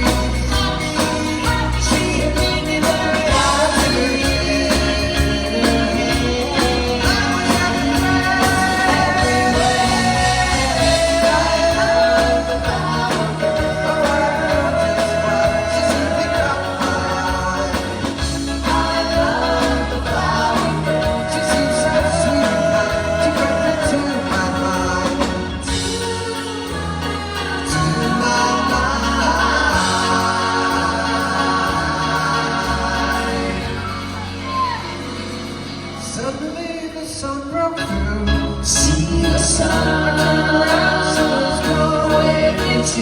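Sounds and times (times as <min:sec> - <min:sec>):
voices singing long notes: 0:00.0 - 0:36.5, 0:37.8 - 0:43.0
live band playing pop song: 0:00.0 - 0:43.0.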